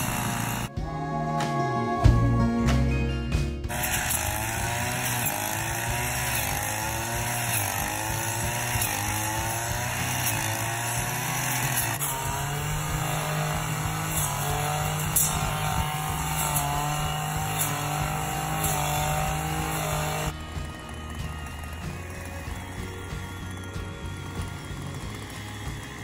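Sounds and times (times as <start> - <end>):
brush cutter engine: 0.0 - 0.7, 3.7 - 26.0.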